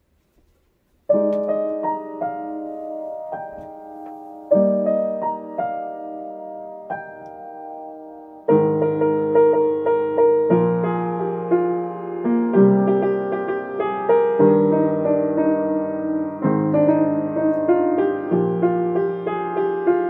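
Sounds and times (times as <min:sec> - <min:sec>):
piano chords: 0:01.1 - 0:20.0.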